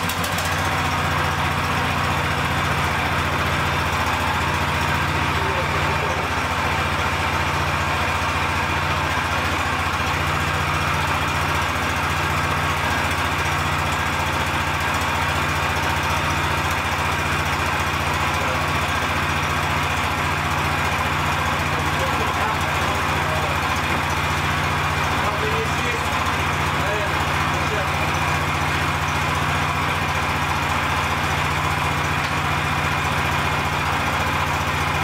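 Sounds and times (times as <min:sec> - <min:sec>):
petrol engine idling: 0:00.0 - 0:35.0.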